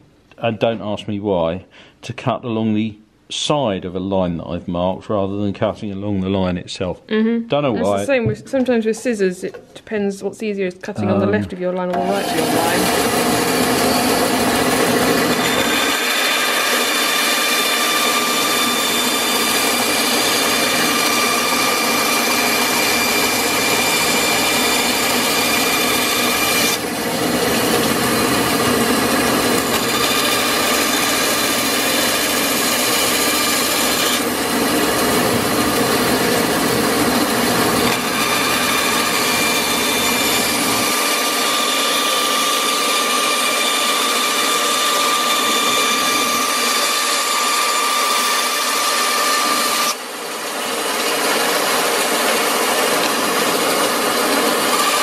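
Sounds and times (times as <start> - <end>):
bandsaw cutting wood: 7.8 - 8.2, 11.0 - 55.0.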